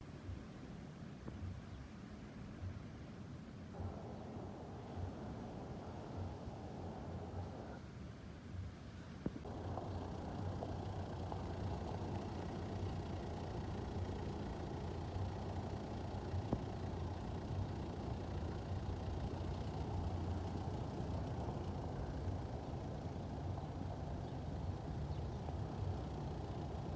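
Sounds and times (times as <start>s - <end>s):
jet engines rumbling: 3.8s - 7.9s, 9.3s - 26.9s.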